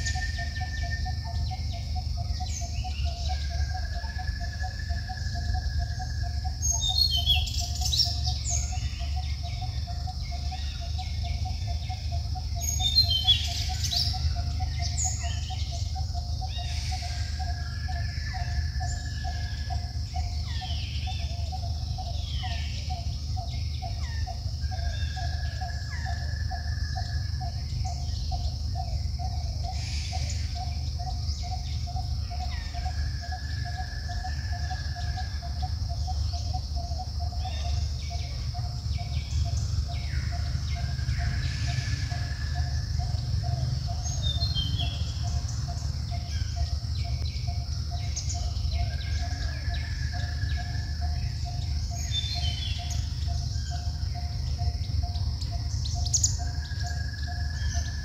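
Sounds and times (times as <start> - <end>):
birds chirping and whistling: 0.0 - 58.0
fast pulsing animal call: 0.0 - 58.0
high insect drone: 0.0 - 58.0.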